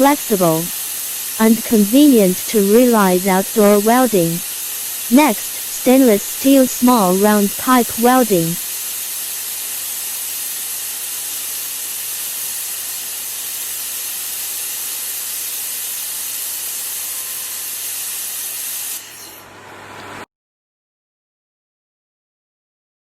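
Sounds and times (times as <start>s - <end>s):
laser welder hissing: 0.0s - 19.0s.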